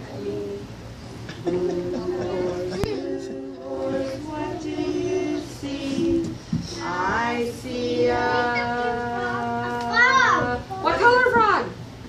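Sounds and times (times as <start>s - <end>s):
woman and children singing: 0.0s - 11.4s.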